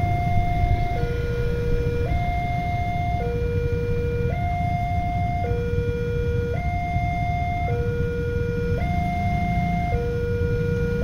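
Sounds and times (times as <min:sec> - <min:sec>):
level crossing two-tone alarm: 0:00.0 - 0:11.0.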